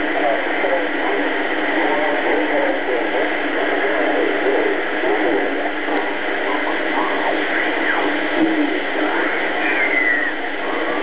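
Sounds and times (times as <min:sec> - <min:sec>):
shortwave radio static: 0:00.0 - 0:11.0.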